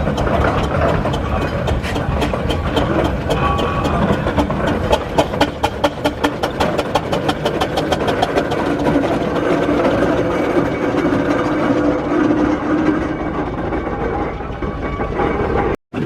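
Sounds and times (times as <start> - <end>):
steam engine chuffing: 0.0 - 16.0.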